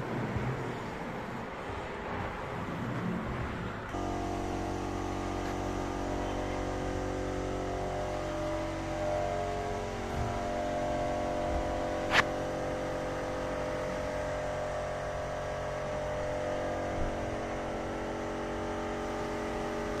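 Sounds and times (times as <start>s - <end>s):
motor humming: 3.9s - 20.0s.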